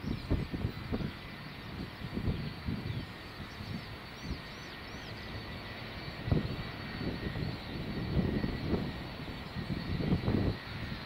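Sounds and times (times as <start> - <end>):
faint high whine: 0.0 - 11.0
jet engines rumbling: 0.0 - 11.0.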